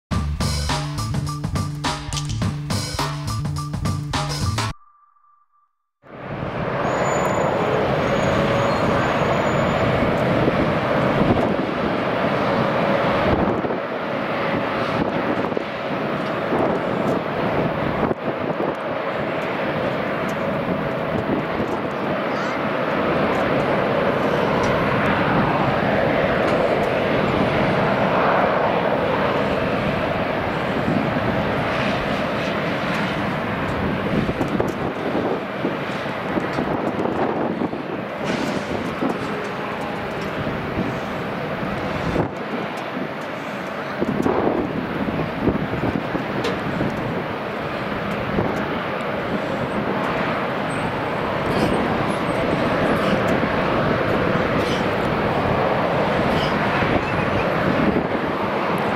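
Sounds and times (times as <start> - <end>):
jet engines running: 6.1 - 58.9.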